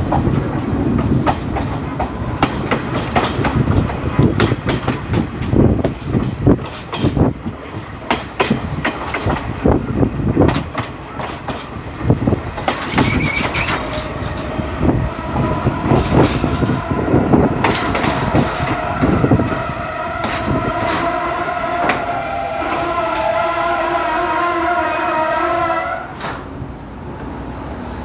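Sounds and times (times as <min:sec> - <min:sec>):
train wheels clacking: 0:00.0 - 0:24.7.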